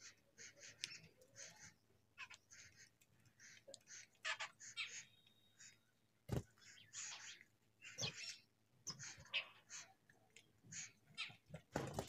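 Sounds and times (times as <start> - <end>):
babbler birds chattering: 0.0 - 11.7.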